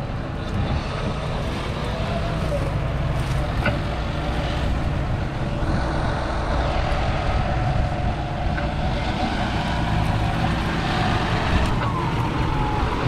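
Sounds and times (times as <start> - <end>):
steady whine: 0.0 - 13.0
tractor diesel engine running: 0.0 - 13.0.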